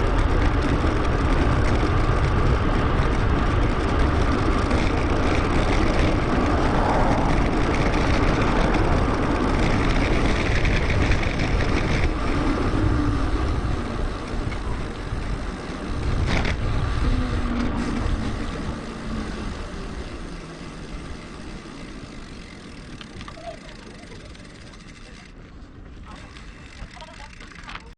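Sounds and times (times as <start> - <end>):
wind and road noise: 0.0 - 27.9.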